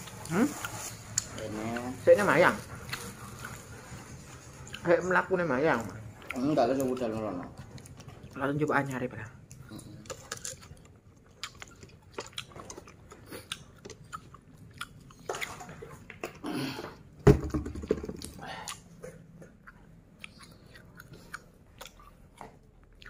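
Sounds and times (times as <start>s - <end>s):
chewing crisp fried food: 0.0s - 16.4s, 18.2s - 23.0s.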